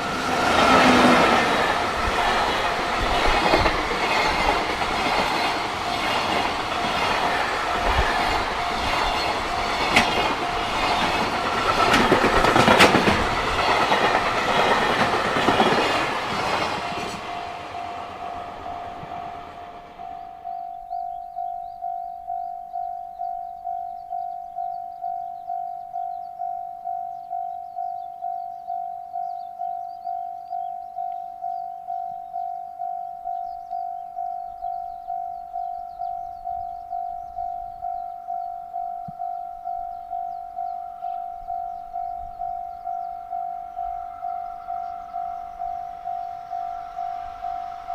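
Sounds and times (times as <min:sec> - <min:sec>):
level-crossing warning bell: 0:00.0 - 0:47.9.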